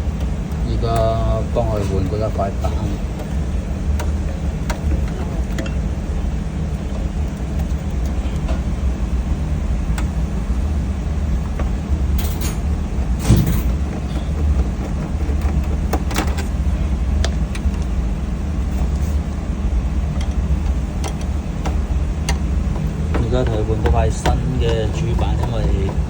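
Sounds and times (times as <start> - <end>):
clicks and knocks of hand work: 0.0 - 8.8, 11.4 - 18.0, 20.1 - 26.0.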